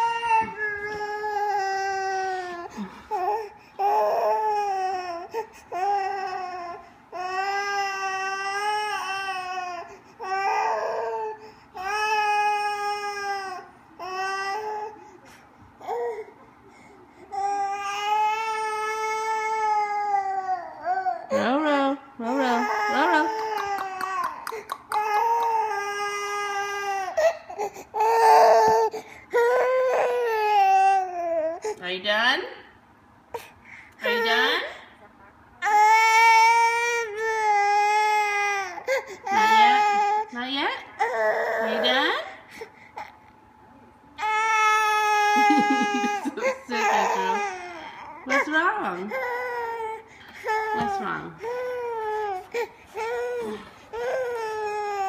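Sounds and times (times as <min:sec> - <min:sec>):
baby crying and wailing: 0:00.0 - 0:15.0, 0:17.3 - 0:31.8, 0:35.6 - 0:43.2, 0:44.2 - 0:55.0.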